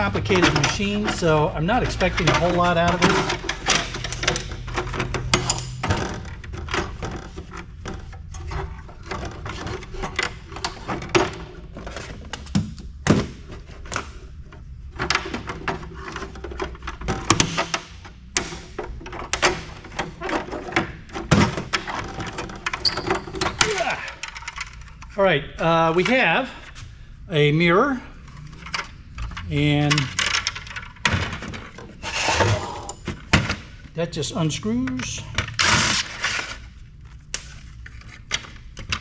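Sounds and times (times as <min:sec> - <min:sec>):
hand tools and housing parts clunking: 0:00.0 - 0:25.2, 0:28.3 - 0:36.6.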